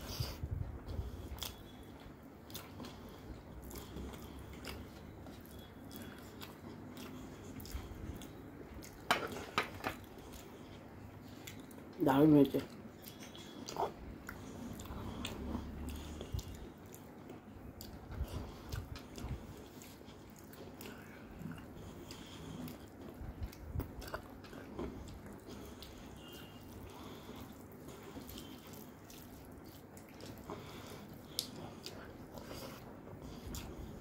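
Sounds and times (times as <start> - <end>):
chewing and biting: 0.8 - 12.0, 12.7 - 34.0.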